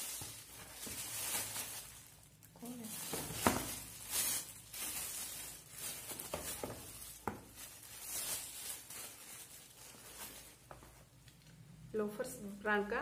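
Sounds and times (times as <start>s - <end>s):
plastic bags crinkling: 0.0s - 11.2s.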